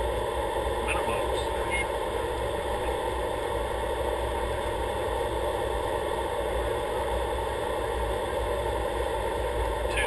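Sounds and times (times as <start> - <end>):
aircraft engine drone in cockpit: 0.0 - 10.0.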